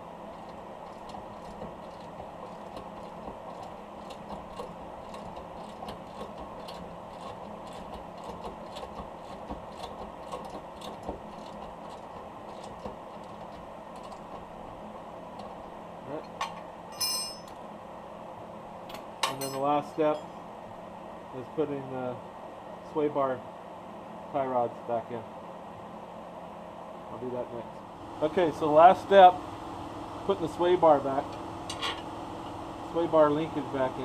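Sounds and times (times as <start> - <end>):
background hum: 0.0 - 34.0.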